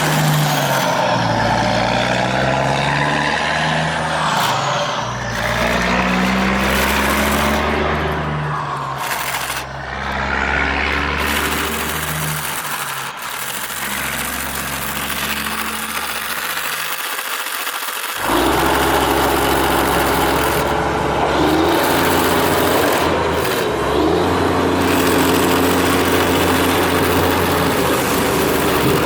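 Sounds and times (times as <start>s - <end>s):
sand scraping: 0.0s - 29.0s
small electric motors and gearboxes: 0.0s - 29.0s
steady motor whine: 0.0s - 29.0s.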